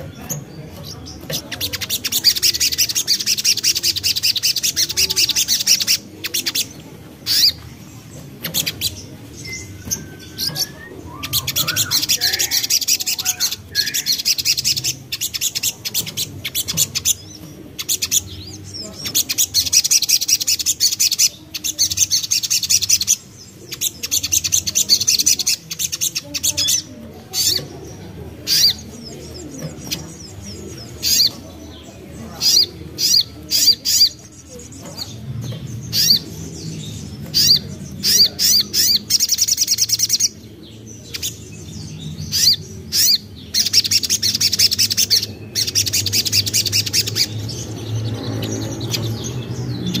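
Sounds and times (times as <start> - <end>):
soft low bird calls: 0.0 - 47.5
bird high twittering song: 0.0 - 50.0.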